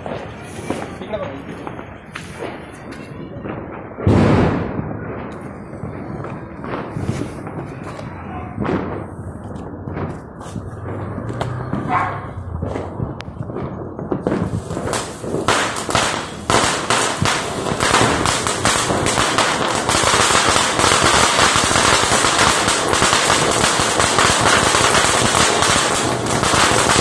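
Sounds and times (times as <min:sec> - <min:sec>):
firework hissing and crackling: 0:00.0 - 0:02.9, 0:04.2 - 0:27.0
firework pops and sputters: 0:00.0 - 0:27.0.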